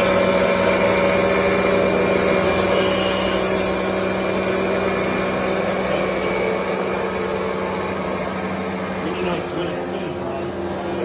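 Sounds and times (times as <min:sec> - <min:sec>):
water spraying and splashing: 0:00.0 - 0:09.4
motor hum: 0:00.0 - 0:11.0.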